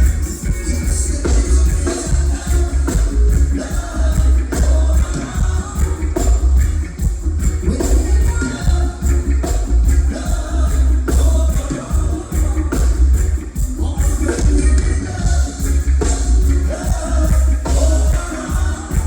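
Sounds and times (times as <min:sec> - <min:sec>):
heavy pulsing bass line: 0:00.0 - 0:19.0
live reggae band playing: 0:00.0 - 0:19.0
person singing: 0:00.3 - 0:06.8, 0:07.6 - 0:19.0.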